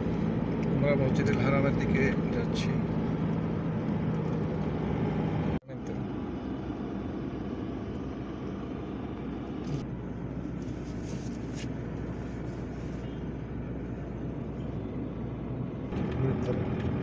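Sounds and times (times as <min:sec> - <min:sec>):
road and engine noise in cabin: 0:00.0 - 0:17.0.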